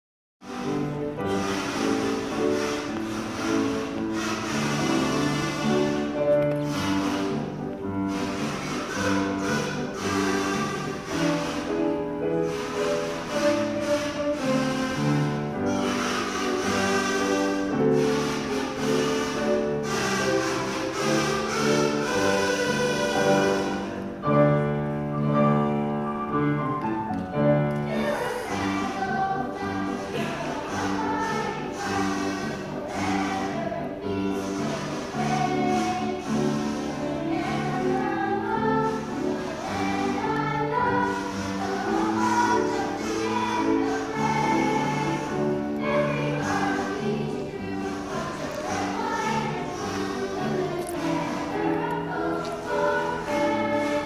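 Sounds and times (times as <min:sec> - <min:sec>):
piano accompaniment: 0:00.4 - 0:54.0
boys' choir singing: 0:00.5 - 0:24.3, 0:27.8 - 0:54.0.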